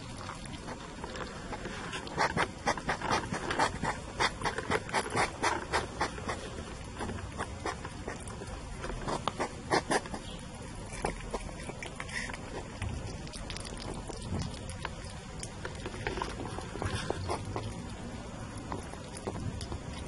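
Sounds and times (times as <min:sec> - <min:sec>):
hedgehogs chewing food: 0:00.0 - 0:20.0.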